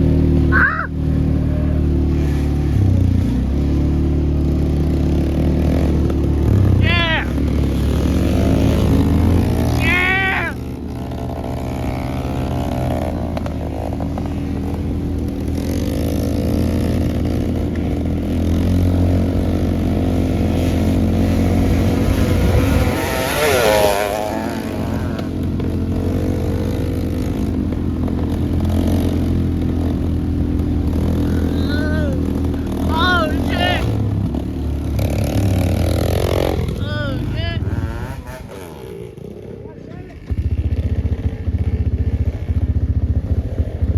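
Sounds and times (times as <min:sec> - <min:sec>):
wavering engine note: 0:00.0 - 0:38.7
pit bike engine running: 0:00.0 - 0:43.9.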